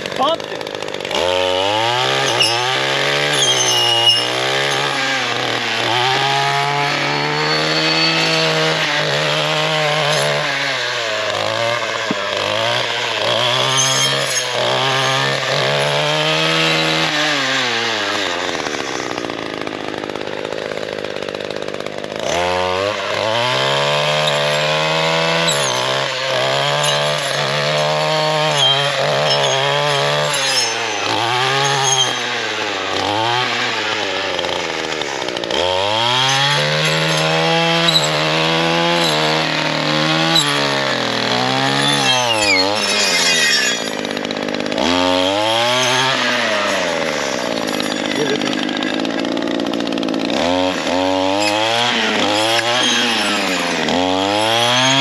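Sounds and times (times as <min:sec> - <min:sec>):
gas trimmer engine revving: 0:00.0 - 0:55.0
saw blade cutting brush: 0:00.0 - 0:55.0.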